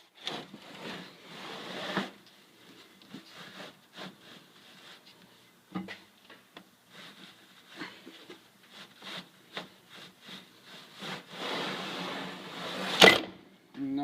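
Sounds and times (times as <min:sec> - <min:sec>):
rubbing and rustling handling: 0:00.0 - 0:13.1.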